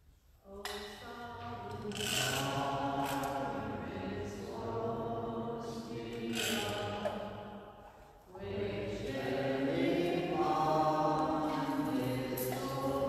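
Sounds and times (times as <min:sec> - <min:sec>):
voices singing a chant-like hymn: 0:00.4 - 0:13.0.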